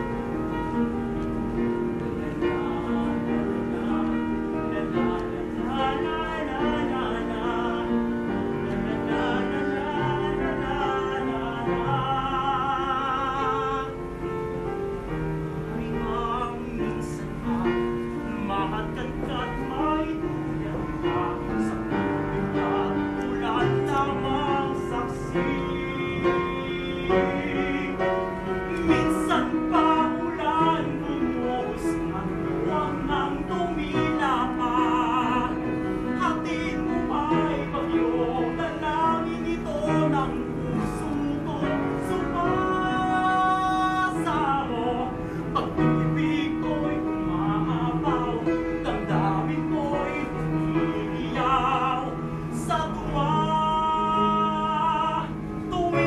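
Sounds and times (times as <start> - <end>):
piano accompaniment: 0.0 - 56.0
operatic singing voice: 2.2 - 14.2, 15.6 - 56.0.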